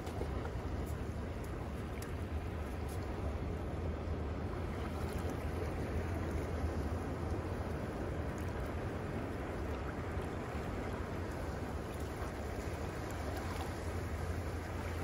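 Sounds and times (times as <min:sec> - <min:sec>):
ocean surf on shore: 0:00.0 - 0:15.0.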